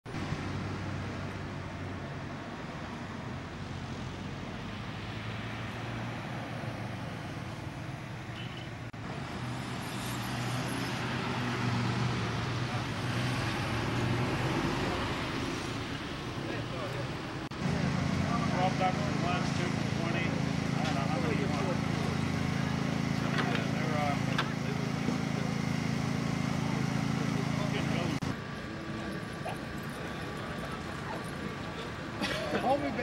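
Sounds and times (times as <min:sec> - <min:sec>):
low hum of traffic: 0:00.0 - 0:33.0.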